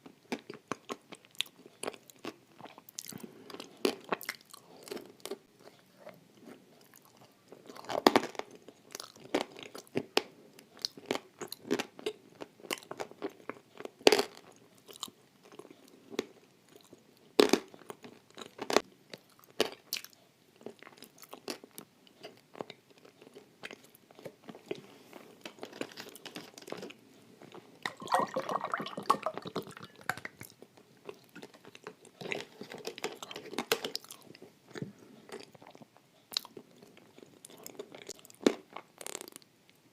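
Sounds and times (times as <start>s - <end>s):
crunching and chewing: 0.0s - 28.0s, 29.3s - 39.8s.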